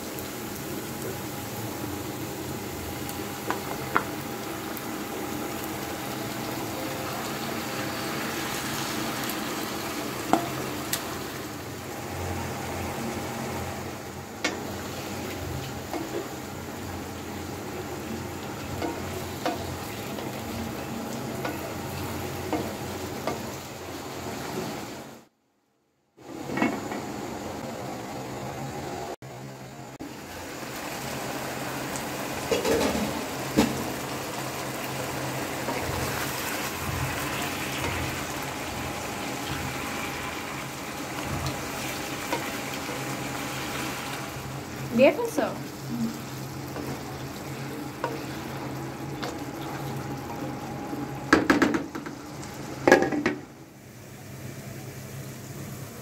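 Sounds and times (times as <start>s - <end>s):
food sizzling in hot oil: 0.0s - 25.3s, 30.0s - 56.0s
meat frying: 0.0s - 25.3s, 30.0s - 56.0s.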